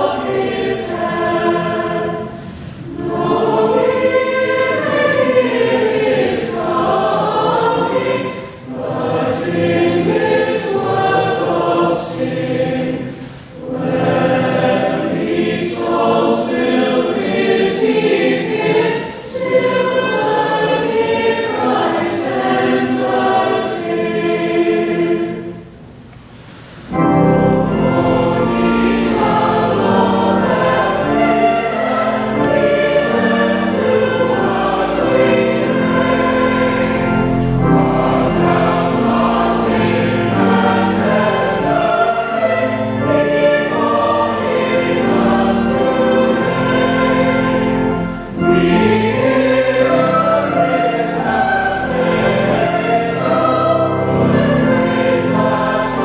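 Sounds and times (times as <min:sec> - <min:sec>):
mixed choir singing a carol: 0:00.0 - 0:56.0
organ accompaniment: 0:00.0 - 0:56.0.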